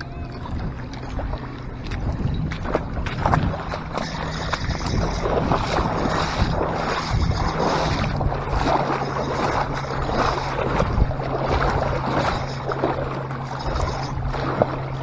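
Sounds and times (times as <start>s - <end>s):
low motor hum: 0.0s - 15.0s
water sloshing around waders: 0.0s - 15.0s
wind on microphone: 0.0s - 15.0s.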